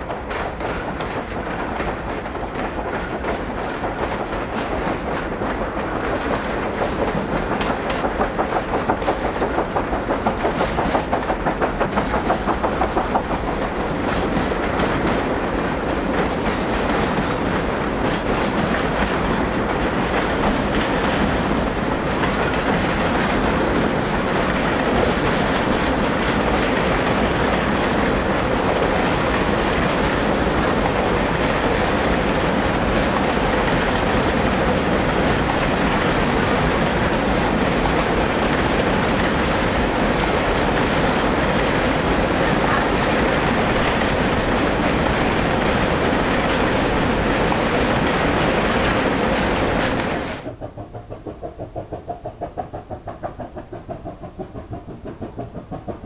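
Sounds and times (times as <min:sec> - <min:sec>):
steam locomotive exhaust beat: 0:00.0 - 0:56.0
wagons rumbling on track: 0:00.0 - 0:56.0.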